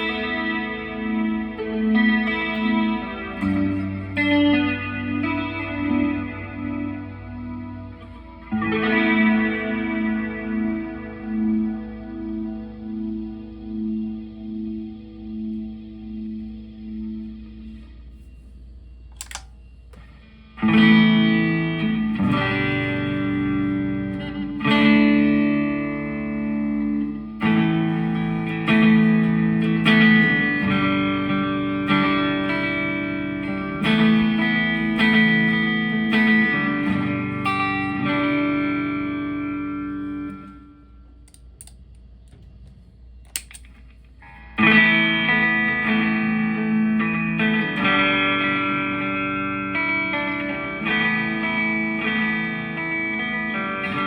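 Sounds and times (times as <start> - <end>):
electric guitar chords ringing: 0.0 - 54.0
faint amplifier hum: 0.0 - 54.0.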